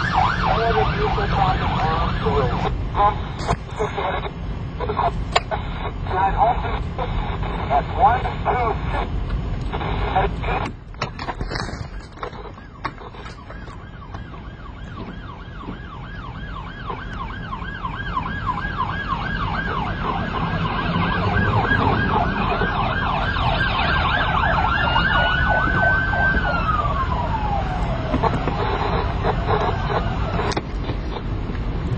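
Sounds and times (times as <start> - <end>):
police siren yelping: 0.0 - 9.1, 9.8 - 30.6
engine and road noise: 0.0 - 31.9.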